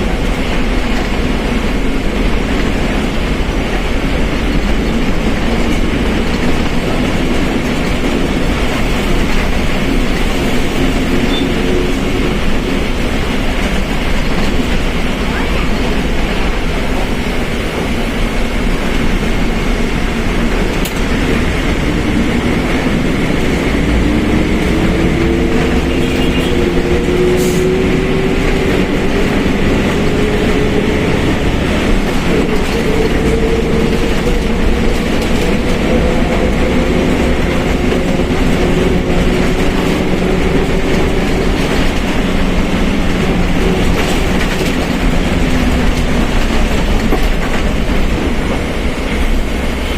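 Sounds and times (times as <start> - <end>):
bus differential whining: 0.0 - 49.9
road and body rumble: 0.0 - 49.9.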